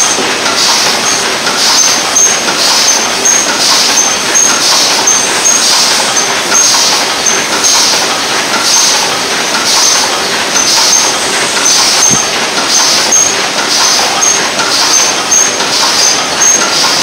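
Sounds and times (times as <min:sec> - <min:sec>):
machine clattering rhythmically: 0:00.0 - 0:17.0.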